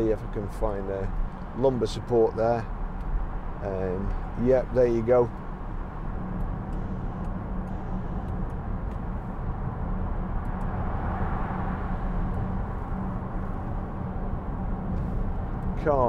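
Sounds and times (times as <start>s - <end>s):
low hum: 0.0s - 16.0s
tyre and road noise: 0.0s - 16.0s.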